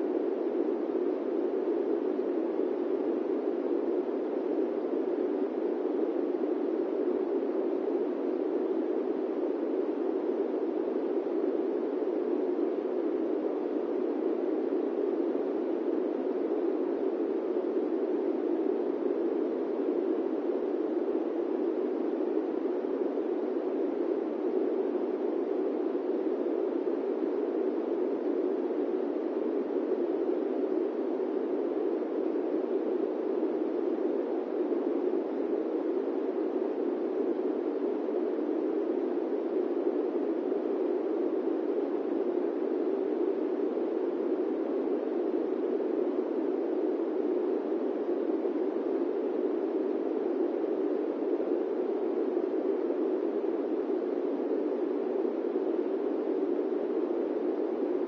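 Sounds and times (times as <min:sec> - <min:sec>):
airplane cabin white noise: 0:00.0 - 0:58.0.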